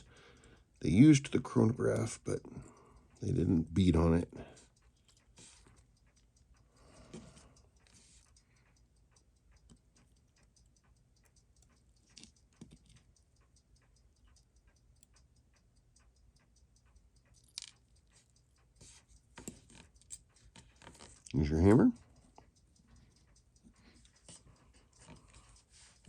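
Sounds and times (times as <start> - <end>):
rapid even ticking: 0.0 - 26.0.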